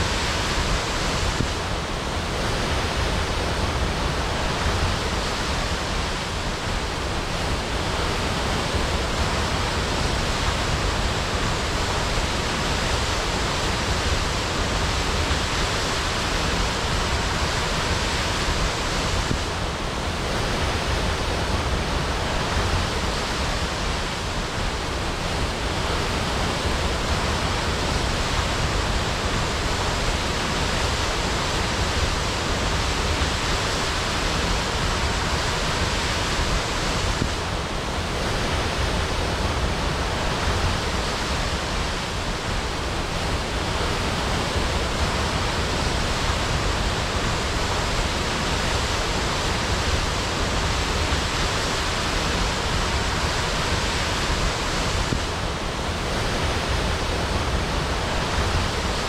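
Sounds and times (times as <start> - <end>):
waterfall crashing: 0.0 - 59.0.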